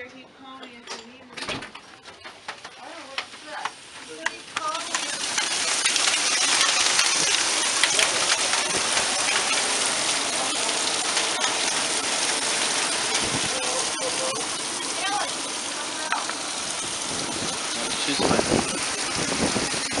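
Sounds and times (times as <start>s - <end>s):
raindrops ticking: 2.5s - 20.0s
torrential rain hissing: 2.7s - 20.0s.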